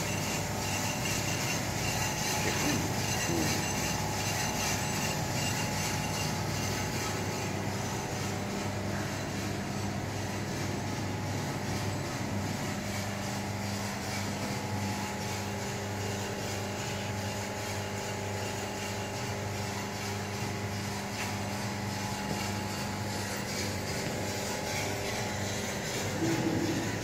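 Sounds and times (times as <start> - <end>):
motors and fans humming: 0.0 - 27.0.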